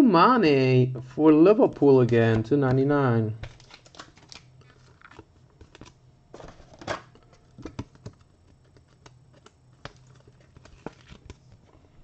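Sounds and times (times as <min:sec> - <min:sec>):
plastic card sleeve rustling: 0:01.6 - 0:12.0.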